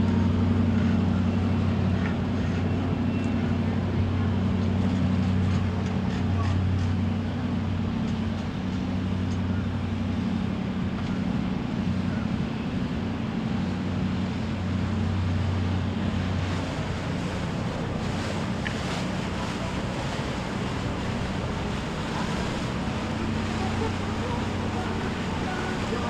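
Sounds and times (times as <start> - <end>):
boat engine drone: 0.0 - 26.0
water wash: 0.0 - 26.0.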